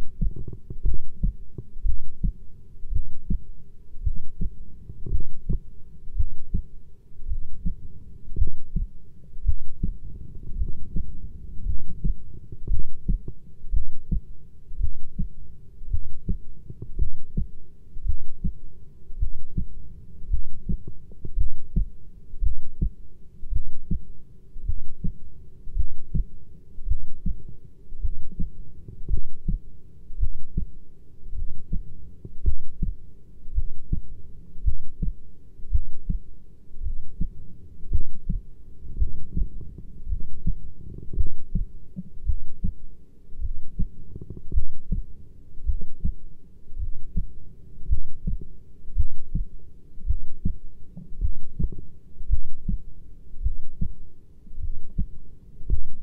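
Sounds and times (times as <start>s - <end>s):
heartbeat thumps: 0.0s - 54.0s, 54.6s - 56.0s.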